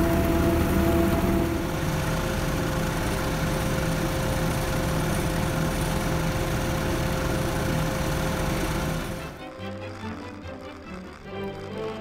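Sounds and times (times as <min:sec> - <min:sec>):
thin whine: 0:00.0 - 0:12.0
tractor engine under load: 0:00.0 - 0:12.0.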